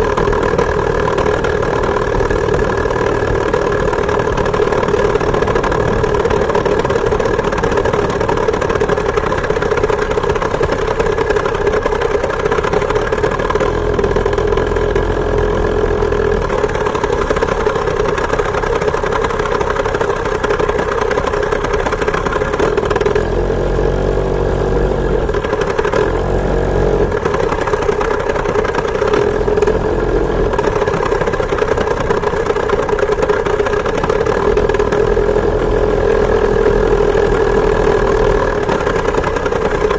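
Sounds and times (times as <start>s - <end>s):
two-stroke moped engine running: 0.0s - 39.9s.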